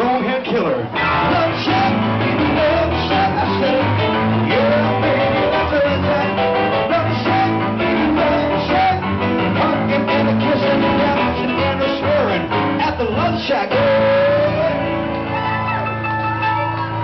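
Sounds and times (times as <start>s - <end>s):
live rock band with singer: 0.0s - 17.0s.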